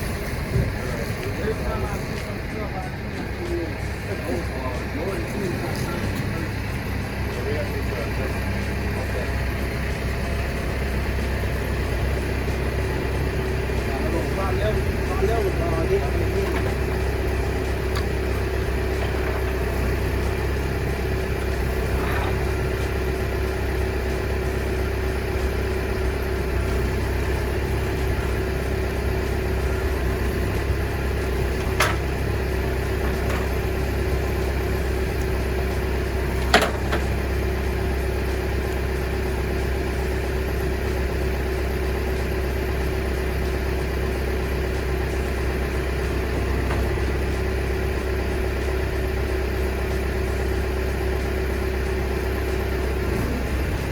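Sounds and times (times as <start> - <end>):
truck engine running: 0.0 - 53.9.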